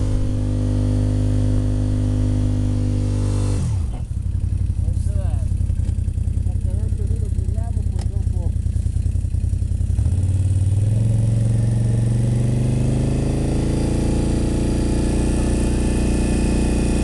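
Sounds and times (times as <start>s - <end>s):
quad bike engine revving: 0.0s - 17.0s.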